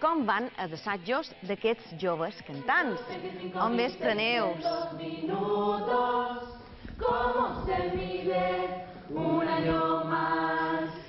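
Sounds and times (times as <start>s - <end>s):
women singing a cappella: 2.1s - 11.0s.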